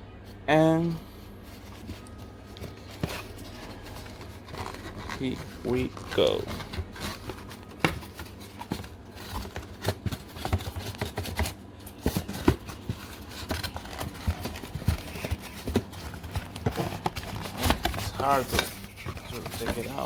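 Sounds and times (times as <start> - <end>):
microphone box being handled: 1.5 - 20.0.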